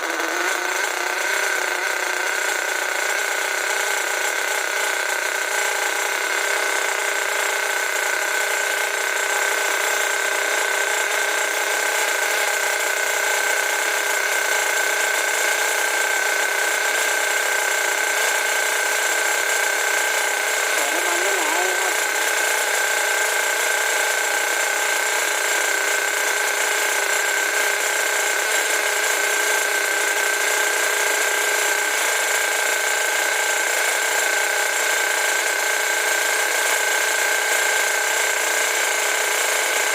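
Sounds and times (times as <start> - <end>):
nitro engine high-pitched whine: 0.0 - 39.9.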